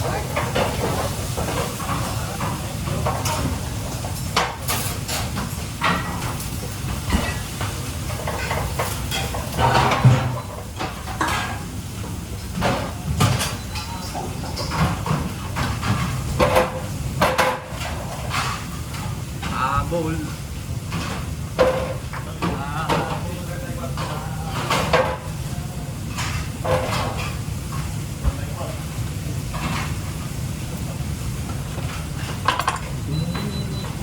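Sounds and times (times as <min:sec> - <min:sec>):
utensils and pans clattering: 0:00.0 - 0:19.8, 0:20.9 - 0:28.8, 0:29.4 - 0:31.0, 0:31.6 - 0:34.0
low kitchen hum and hiss: 0:00.0 - 0:34.0.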